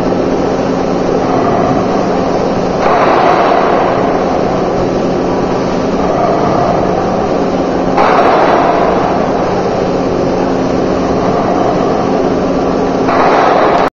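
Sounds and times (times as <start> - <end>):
factory machinery din: 0.0 - 13.9
low machine hum: 0.0 - 13.9.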